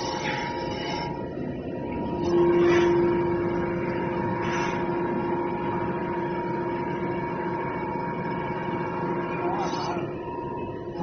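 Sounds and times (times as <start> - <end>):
baler machine hum with whine: 0.0 - 11.0.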